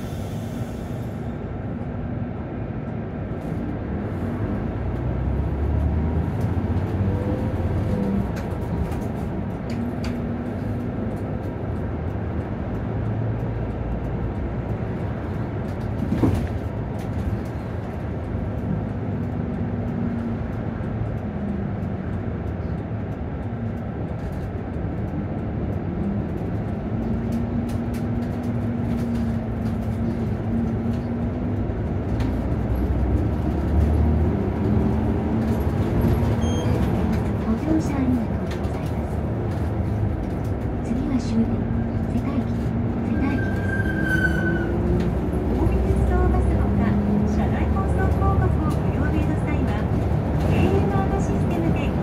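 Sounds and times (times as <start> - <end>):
bus diesel engine: 0.0 - 52.0
road rumble: 0.0 - 52.0.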